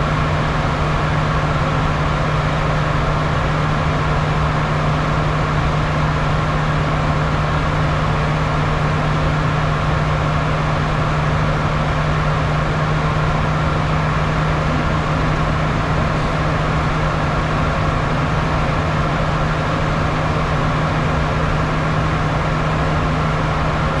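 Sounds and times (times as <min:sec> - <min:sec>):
jet engines droning: 0:00.0 - 0:24.0.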